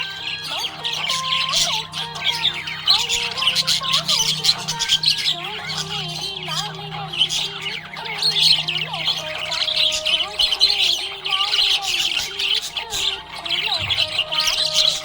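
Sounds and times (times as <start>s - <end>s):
budgerigars chirping: 0.0s - 15.0s
faint wavering background melody: 0.0s - 15.0s.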